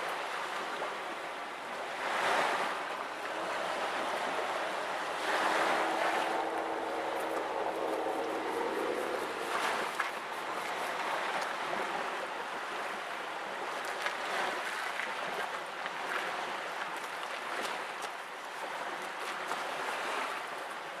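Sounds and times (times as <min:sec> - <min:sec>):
waves lapping against stone: 0:00.0 - 0:21.0.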